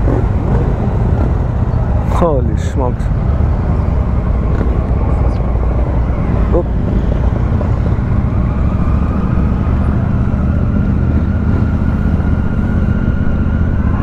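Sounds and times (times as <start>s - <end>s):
motorcycle engines droning: 0.0s - 14.0s.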